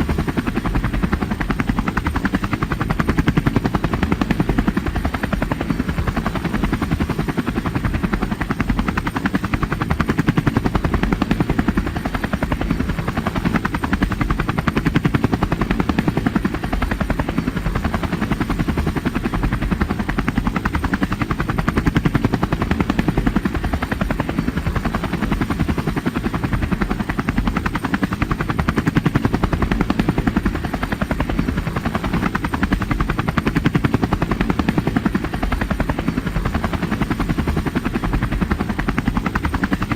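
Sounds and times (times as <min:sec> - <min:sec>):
helicopter engine drone: 0:00.0 - 0:39.9
helicopter rotor chopping: 0:00.0 - 0:39.9.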